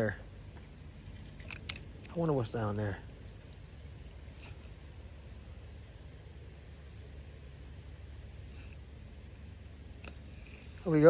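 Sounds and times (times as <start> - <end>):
insects chorus: 0.0 - 11.0
low steady rumble: 0.0 - 11.0.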